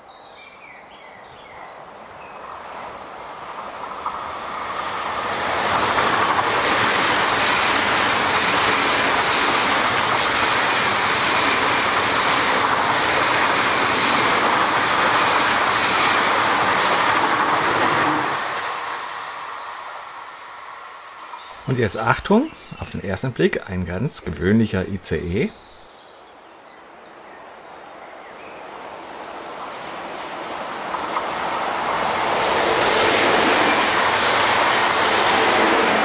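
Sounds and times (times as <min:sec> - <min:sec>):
high-speed train passing: 0:01.8 - 0:25.5, 0:27.4 - 0:36.0.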